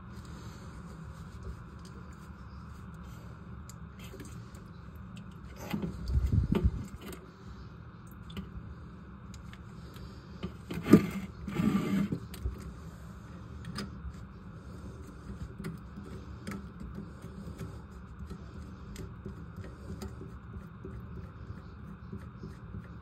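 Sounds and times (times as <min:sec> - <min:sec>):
rumbling rustle of handling: 0:00.0 - 0:23.0
steady low hum: 0:00.0 - 0:23.0.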